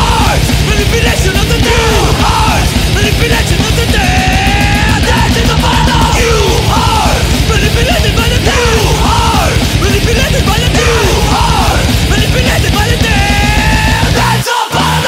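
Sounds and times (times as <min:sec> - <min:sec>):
fast dense drumming: 0:00.0 - 0:14.4
thrash metal band playing: 0:00.0 - 0:15.0.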